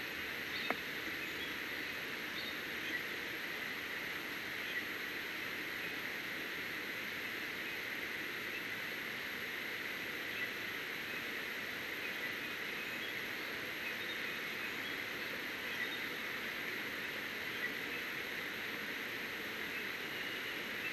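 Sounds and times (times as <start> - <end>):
outdoor background hiss: 0.0 - 20.9.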